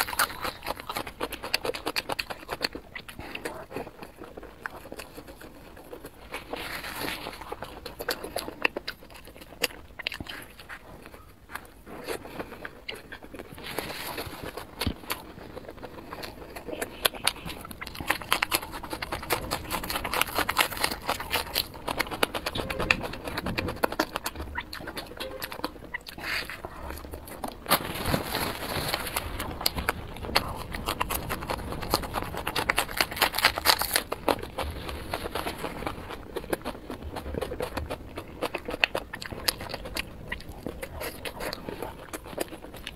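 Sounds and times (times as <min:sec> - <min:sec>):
close chewing with mouth clicks: 0:00.0 - 0:42.9.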